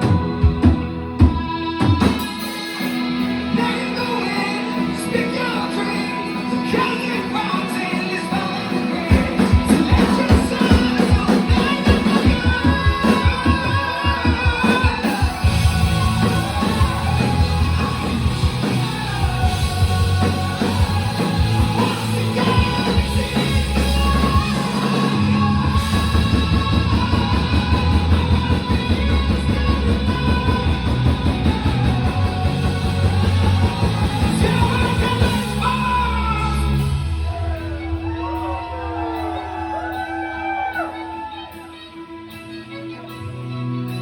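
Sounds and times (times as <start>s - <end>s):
drums: 0.0s - 44.0s
guitars and bass: 0.0s - 44.0s
person singing: 0.0s - 44.0s.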